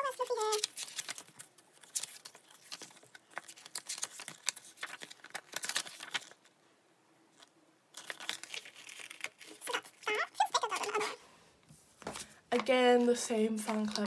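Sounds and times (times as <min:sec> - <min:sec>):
rustling packaging and paper: 0:00.0 - 0:06.6, 0:07.3 - 0:11.2, 0:11.8 - 0:14.0.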